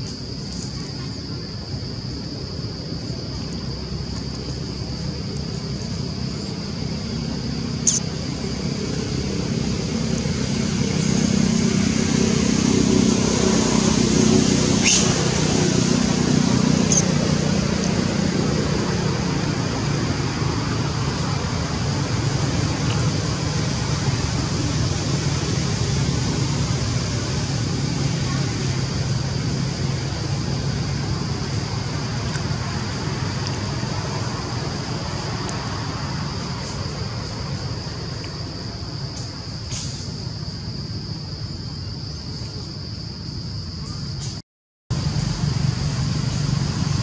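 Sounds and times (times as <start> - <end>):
steady high hum: 0.0 - 47.0.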